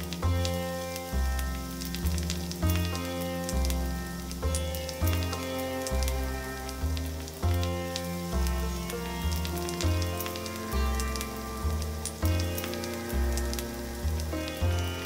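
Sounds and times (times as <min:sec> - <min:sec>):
background music: 0:00.0 - 0:15.0
sharp crackles: 0:00.0 - 0:15.0.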